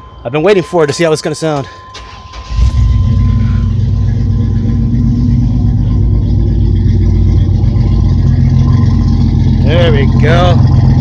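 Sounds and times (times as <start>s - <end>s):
van engine idling: 1.7s - 11.0s.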